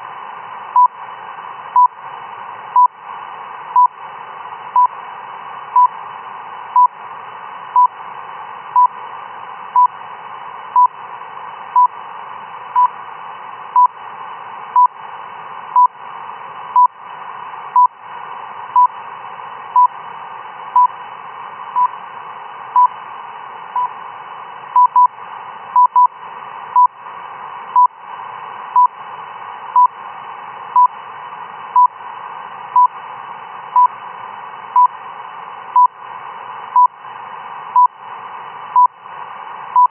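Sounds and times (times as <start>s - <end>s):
radio hiss: 0.0s - 39.9s.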